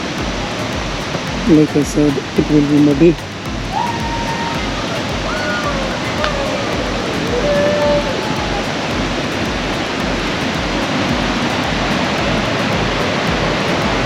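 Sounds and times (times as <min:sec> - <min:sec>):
river rushing over rocks: 0:00.0 - 0:14.0.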